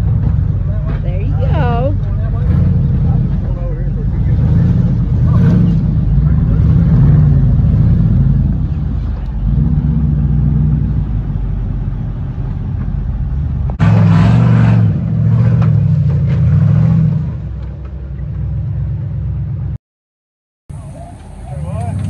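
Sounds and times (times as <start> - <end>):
off-road vehicle engine revving: 0.0 - 19.8, 20.7 - 22.0.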